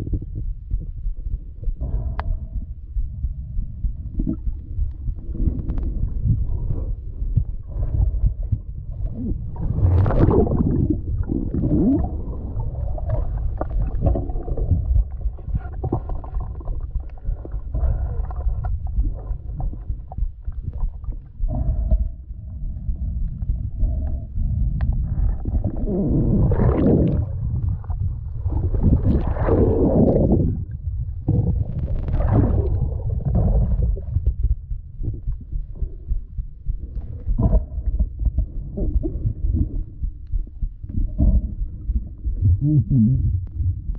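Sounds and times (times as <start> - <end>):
underwater water rumble: 0.0 - 43.9.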